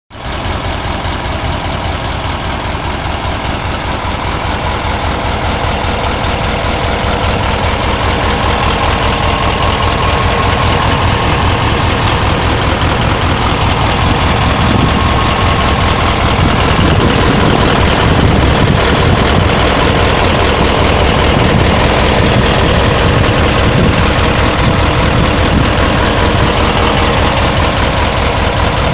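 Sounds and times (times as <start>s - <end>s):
diesel engine idling: 0.1s - 28.9s.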